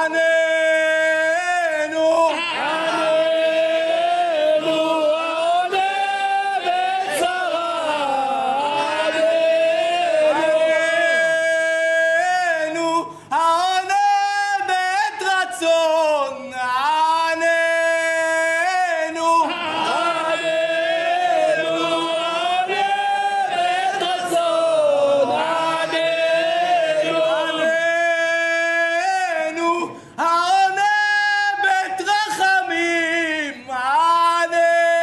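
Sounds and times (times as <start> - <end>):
man singing a prayer chant: 0.0 - 35.0
men's voices singing along: 0.0 - 35.0.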